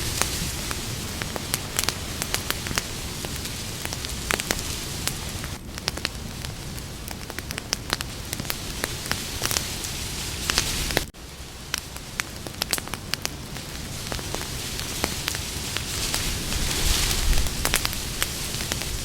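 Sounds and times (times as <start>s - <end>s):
wood campfire crackling: 0.0s - 19.0s.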